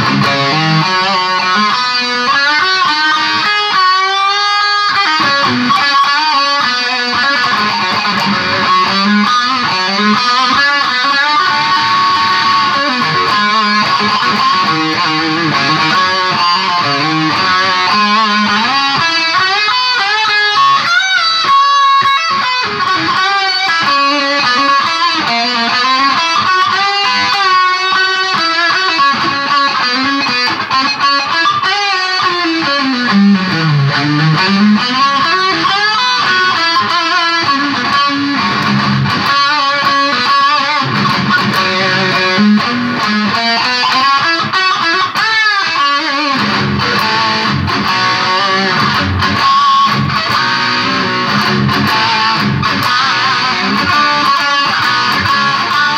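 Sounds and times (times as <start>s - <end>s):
electric guitar playing: 0.0s - 55.9s.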